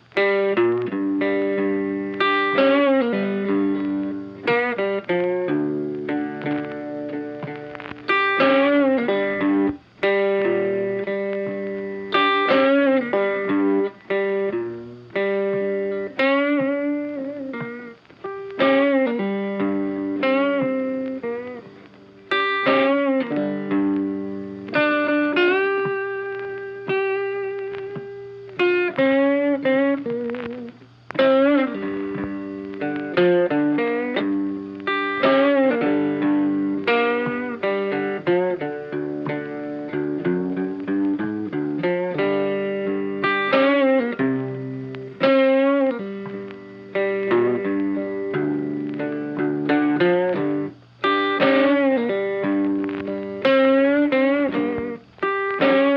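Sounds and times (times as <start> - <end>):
guitar plucking a melody: 0.0 - 55.9.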